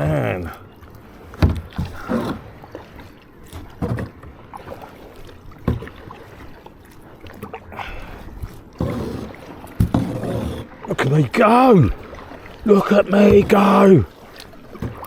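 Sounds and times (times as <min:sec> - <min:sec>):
paddle strokes splashing: 0:00.0 - 0:15.0.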